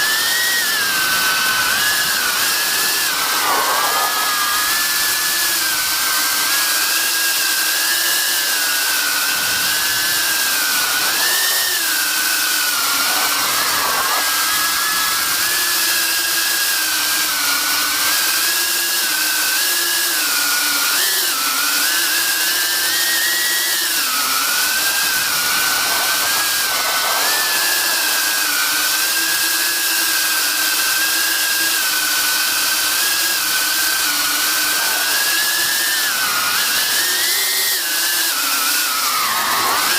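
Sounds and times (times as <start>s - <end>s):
drone motors and propellers whining: 0.0s - 39.9s.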